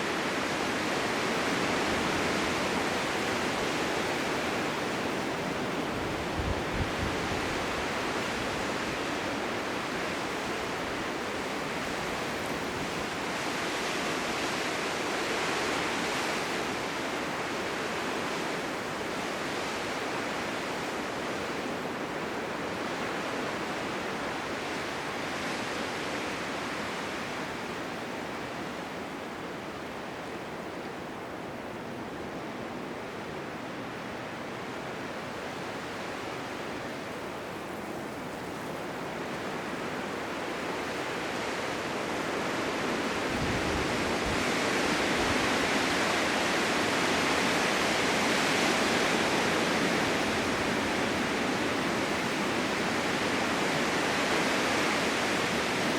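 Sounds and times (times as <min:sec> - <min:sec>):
blizzard wind rushing: 0:00.0 - 0:55.9.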